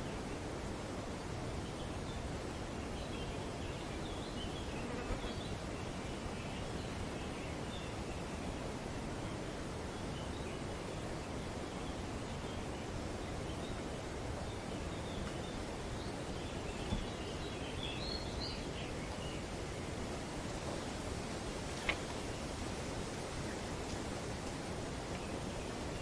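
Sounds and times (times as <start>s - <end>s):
wind through tree foliage: 0.0s - 26.0s.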